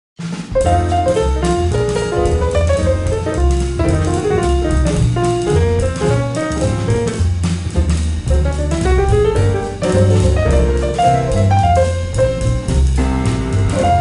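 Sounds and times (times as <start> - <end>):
instrumental jazz music: 0.2 - 14.0.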